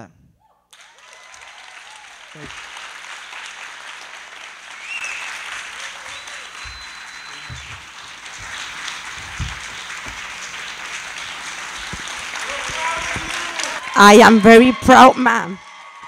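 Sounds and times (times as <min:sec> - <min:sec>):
large audience applauding: 0:00.7 - 0:16.0.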